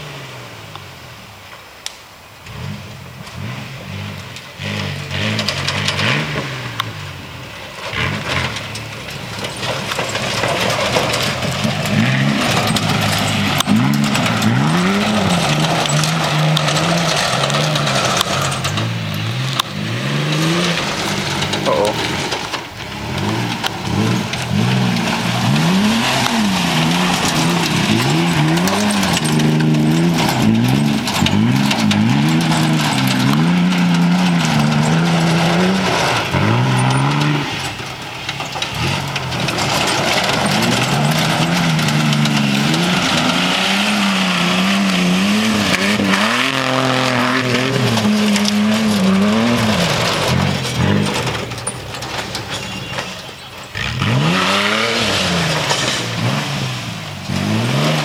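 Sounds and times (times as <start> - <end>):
tires spinning on dirt: 0.0 - 58.0
truck engine revving: 0.0 - 58.0.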